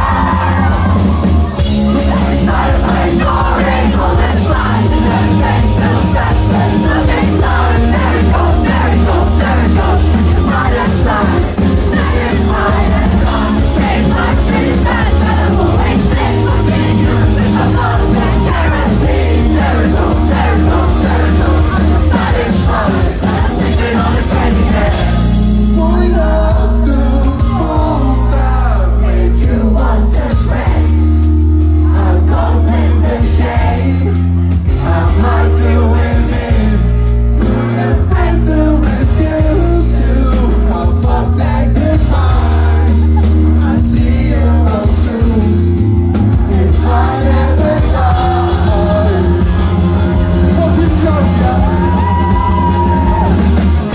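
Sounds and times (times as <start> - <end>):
held bass notes: 0.0 - 53.9
live rock band: 0.0 - 53.9
man singing: 1.7 - 30.9, 31.8 - 45.8, 46.5 - 53.3.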